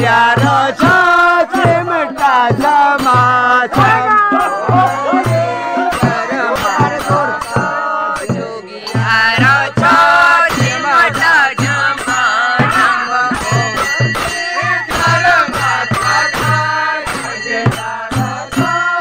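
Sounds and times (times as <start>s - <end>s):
folk song singing: 0.0s - 19.0s
steady drum beat: 0.0s - 19.0s.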